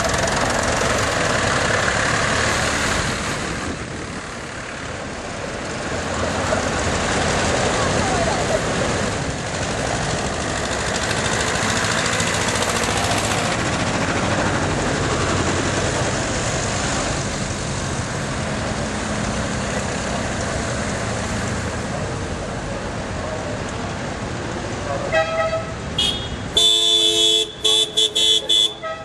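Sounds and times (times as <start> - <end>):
tractors and cars passing: 0.0 - 29.0.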